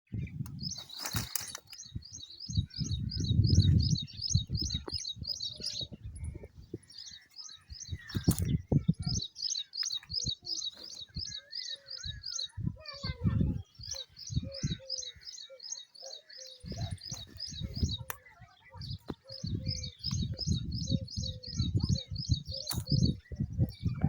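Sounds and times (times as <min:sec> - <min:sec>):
small bird chirping: 0:00.2 - 0:24.0.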